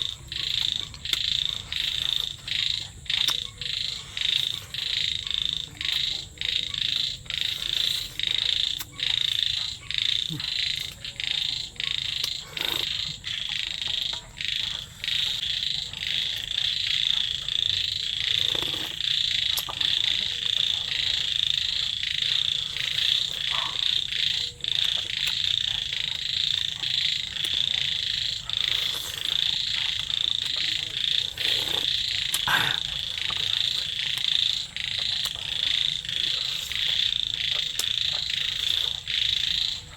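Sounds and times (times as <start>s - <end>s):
chorus of calling animals: 0.0s - 39.9s.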